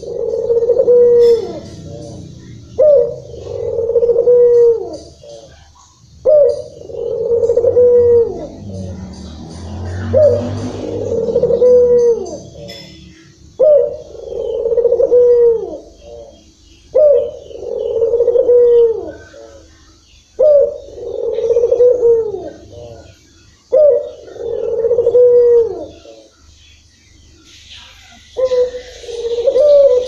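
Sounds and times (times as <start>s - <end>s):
dove cooing: 0.0s - 26.6s, 27.8s - 30.0s.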